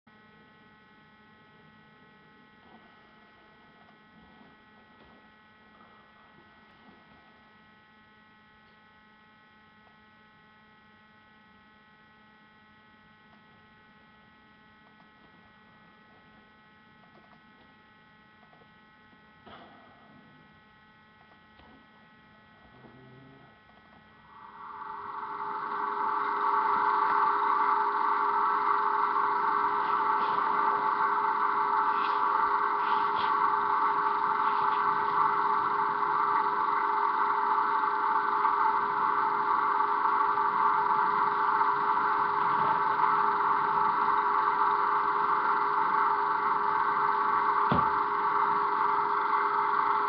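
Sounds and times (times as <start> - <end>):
faint electrical hum: 0.1 - 50.0.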